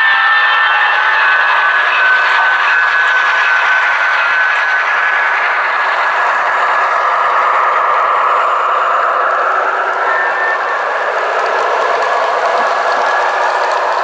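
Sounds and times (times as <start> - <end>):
faint motor whine: 0.0 - 14.0
model train rolling rumble: 0.0 - 14.0.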